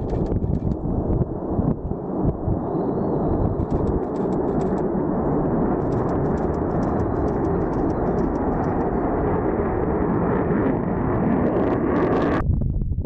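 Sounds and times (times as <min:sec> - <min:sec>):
jet engine rumble with crackling: 0:00.0 - 0:13.0.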